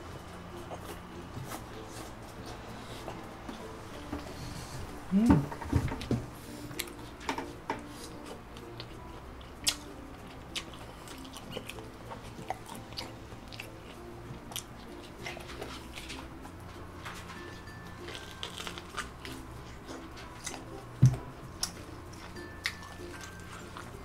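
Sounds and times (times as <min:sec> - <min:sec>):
wet chewing with crunches: 0:00.0 - 0:04.1, 0:06.6 - 0:24.0.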